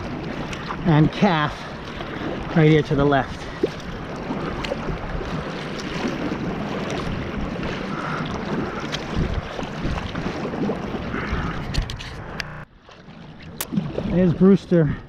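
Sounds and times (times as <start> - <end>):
wind buffeting microphone: 0.0 - 12.6
kayak paddle strokes: 0.0 - 14.7
water lapping against hull: 0.0 - 15.0.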